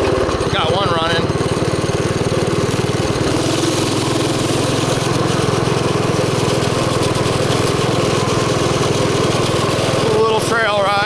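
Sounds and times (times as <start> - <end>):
mini bike engine running: 0.0 - 11.0.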